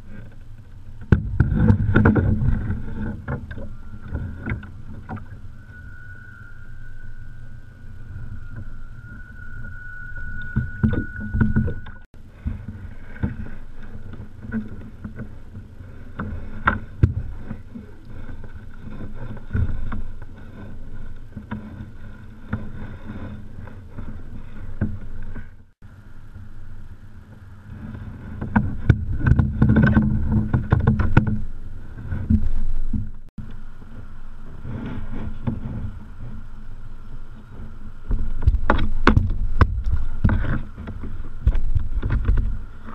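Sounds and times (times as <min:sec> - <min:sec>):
water against hull: 0:00.0 - 0:42.9
wind rumbling on microphone: 0:00.0 - 0:42.9.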